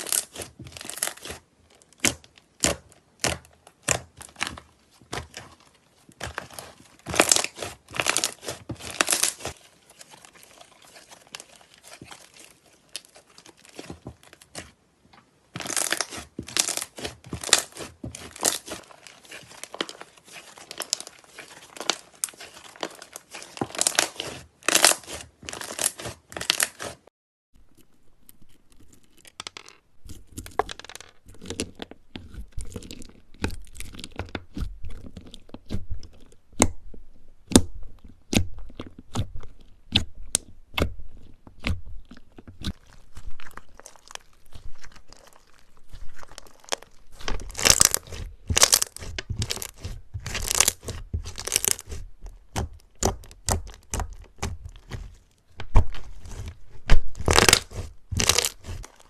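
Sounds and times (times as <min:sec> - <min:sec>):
slime crackling and popping: 0:00.0 - 0:14.7, 0:15.6 - 0:27.0, 0:30.1 - 0:59.0.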